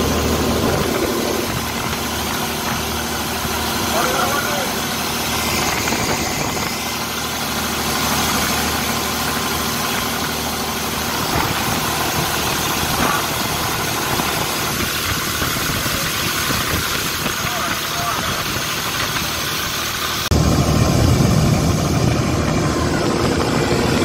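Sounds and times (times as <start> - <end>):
boat engine running: 0.0 - 24.0
water rushing in wake: 0.0 - 24.0.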